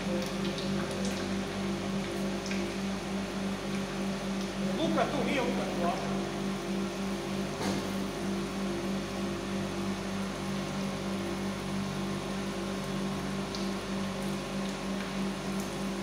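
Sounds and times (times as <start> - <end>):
furnace electrical hum: 0.0 - 16.0.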